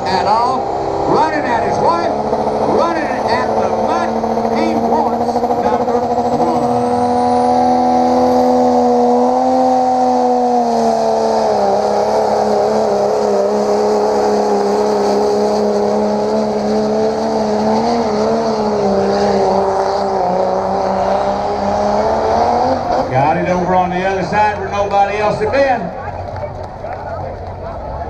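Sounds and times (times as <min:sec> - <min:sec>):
race engine at high revs: 0:00.0 - 0:28.0.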